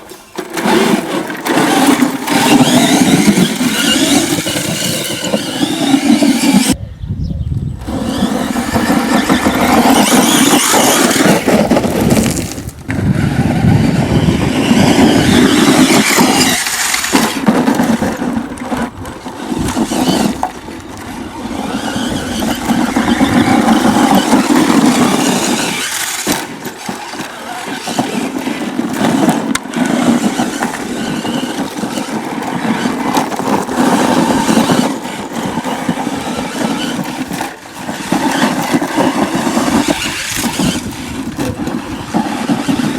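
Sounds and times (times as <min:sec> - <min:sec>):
electric toy truck motor whining: 0:00.0 - 0:06.8, 0:07.8 - 0:42.9
tyre noise: 0:00.0 - 0:06.8, 0:07.7 - 0:42.9.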